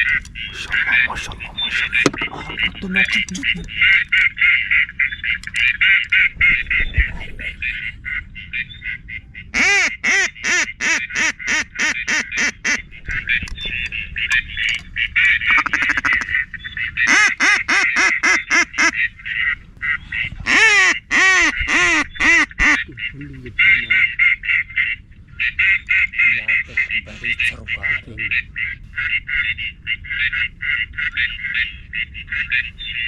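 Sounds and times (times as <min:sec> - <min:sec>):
ducks quacking rapidly: 0:00.0 - 0:33.0.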